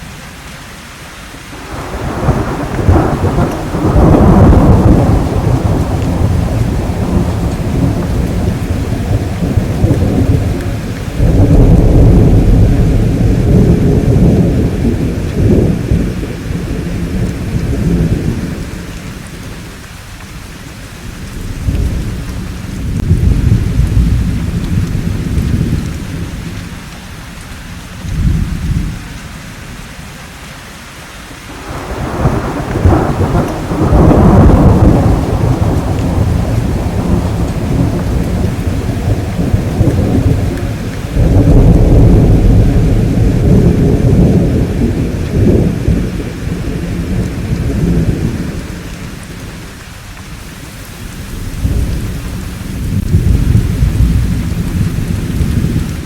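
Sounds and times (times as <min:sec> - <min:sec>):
steady rain: 0:00.0 - 0:56.0
rolling thunder: 0:01.6 - 0:19.7, 0:21.0 - 0:26.8, 0:27.8 - 0:29.1, 0:31.5 - 0:49.6, 0:51.0 - 0:56.0.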